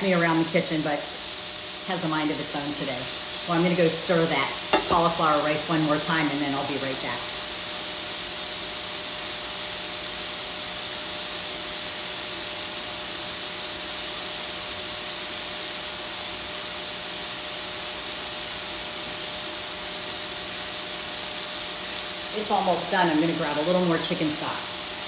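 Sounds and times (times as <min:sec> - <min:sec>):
chicken sizzling in frying pan: 0:00.0 - 0:25.0.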